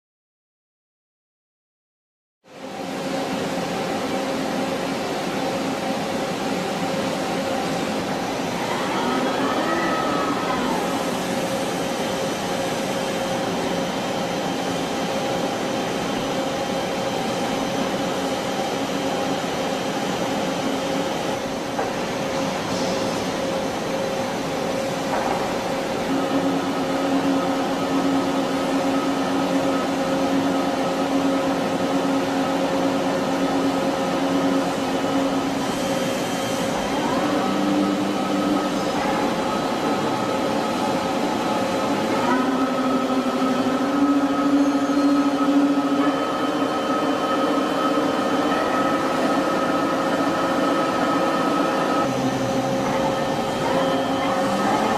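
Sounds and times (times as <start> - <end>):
low machine whine: 2.5 - 54.9
lathe machine hum: 2.6 - 54.9
machine whining tones: 6.8 - 54.9.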